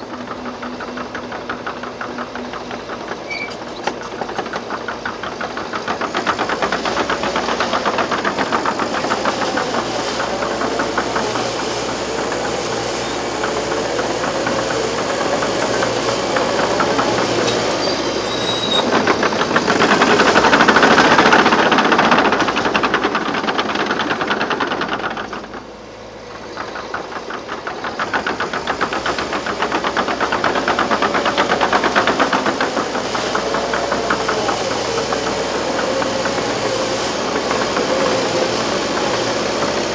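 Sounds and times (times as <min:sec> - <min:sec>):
clattering tracks: 0:00.0 - 0:39.9
dozer diesel engine under load: 0:00.0 - 0:39.9.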